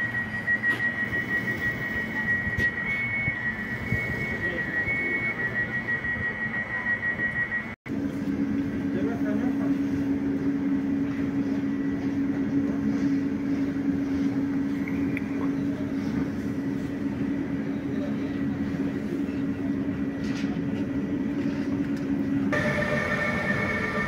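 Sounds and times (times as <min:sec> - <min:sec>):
electric train hum: 0:00.0 - 0:24.0
train high whine: 0:00.0 - 0:24.0.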